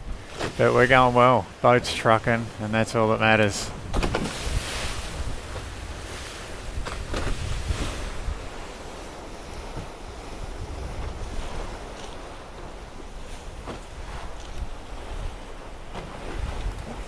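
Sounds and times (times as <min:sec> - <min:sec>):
wind and water rushing: 0:00.0 - 0:17.0
wind buffeting microphone: 0:00.0 - 0:17.0.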